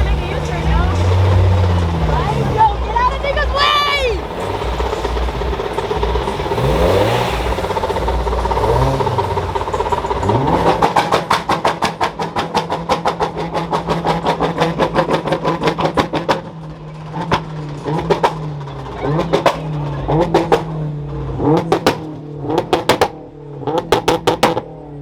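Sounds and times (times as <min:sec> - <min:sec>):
car engine revving: 0:00.0 - 0:25.0
sharp exhaust pops: 0:00.0 - 0:25.0.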